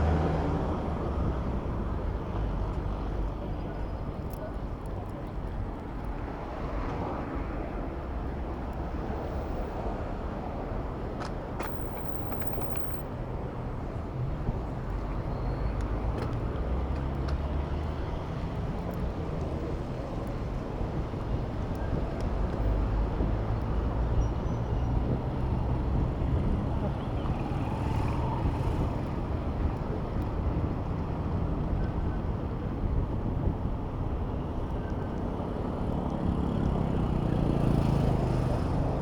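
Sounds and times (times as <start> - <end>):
city street traffic rumble: 0.0 - 39.0.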